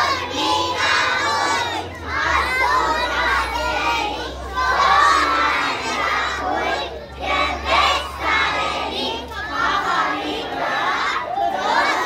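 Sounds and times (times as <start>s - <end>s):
young children calling out and singing: 0.0s - 12.0s.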